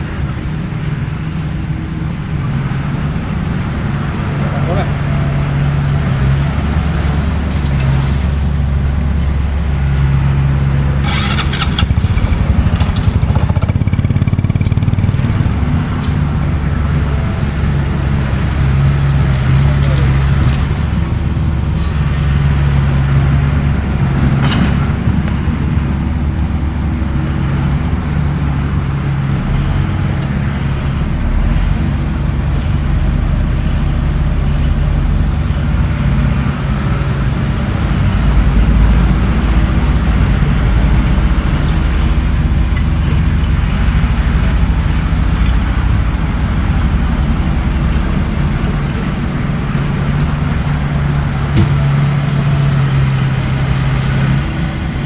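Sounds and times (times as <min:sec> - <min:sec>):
bulldozer diesel engine: 0:00.0 - 0:55.0.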